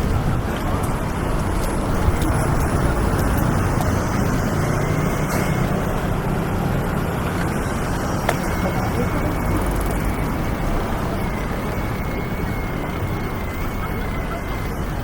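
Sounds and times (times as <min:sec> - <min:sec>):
rumble of passing traffic: 0:00.0 - 0:15.0.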